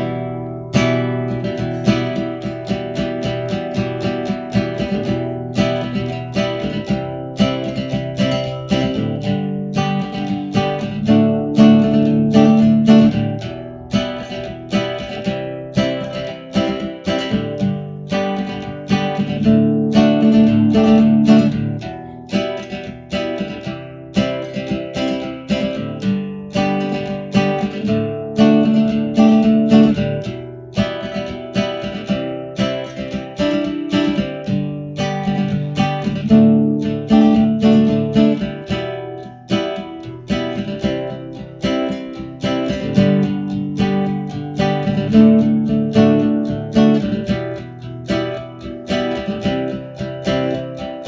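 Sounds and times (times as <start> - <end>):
classical guitar fingerstyle chords: 0.0 - 51.0.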